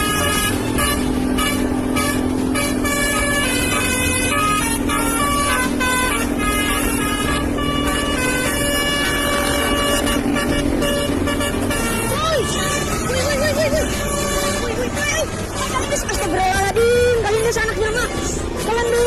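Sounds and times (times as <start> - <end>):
steady low drone: 0.0 - 18.9
multi-tone musical bus horn: 0.0 - 19.0.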